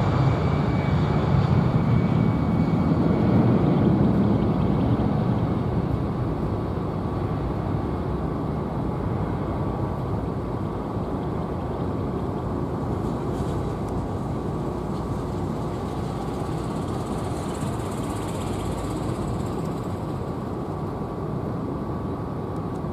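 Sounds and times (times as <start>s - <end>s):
jet engines taxiing: 0.0s - 22.9s.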